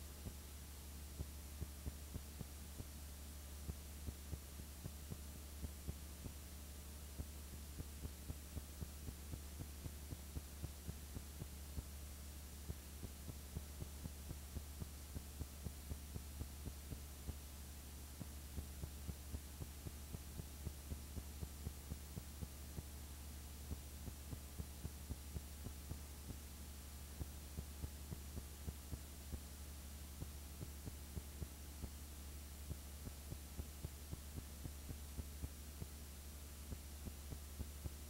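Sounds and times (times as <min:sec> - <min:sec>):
faint hiss: 0:00.0 - 0:38.0
low electrical hum: 0:00.0 - 0:38.0.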